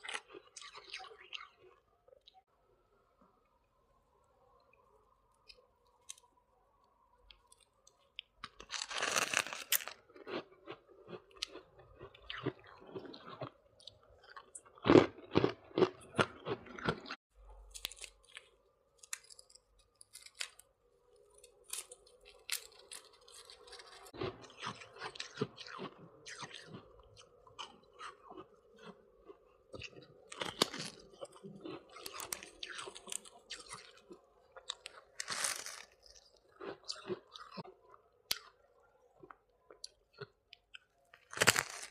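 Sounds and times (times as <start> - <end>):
crunching and chewing ice: 0.0 - 2.4, 7.3 - 41.9.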